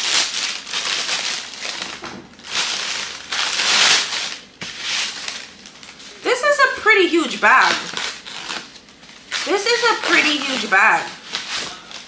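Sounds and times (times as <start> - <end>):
packaging crinkling and rustling: 0.0 - 6.2, 7.5 - 12.0.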